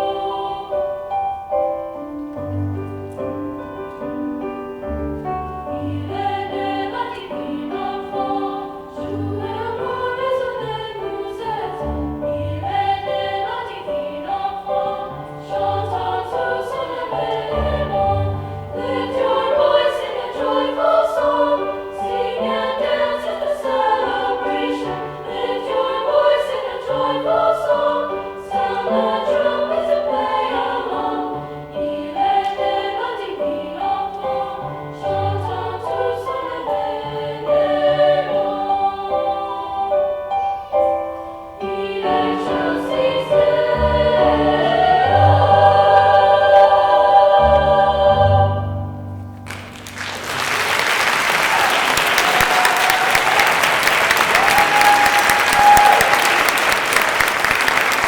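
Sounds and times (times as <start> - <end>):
vocal ensemble singing a carol: 0.0 - 2.7, 5.3 - 50.4.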